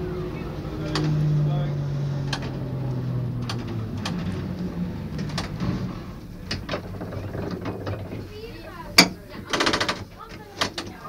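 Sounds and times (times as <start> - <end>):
tram motor hum: 0.0 - 11.0.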